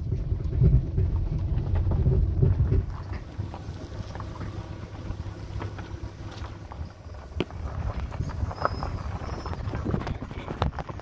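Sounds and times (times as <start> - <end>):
wind buffeting microphone: 0.0 - 11.0
footsteps on dirt path: 0.4 - 11.0.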